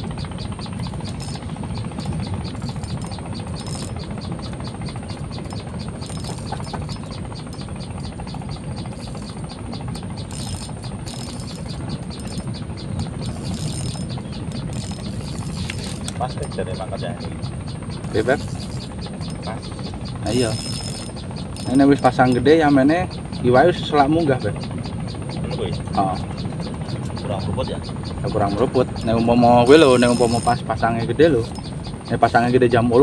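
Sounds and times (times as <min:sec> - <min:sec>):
insects trilling: 0:00.0 - 0:33.0
low steady rumble: 0:00.0 - 0:33.0.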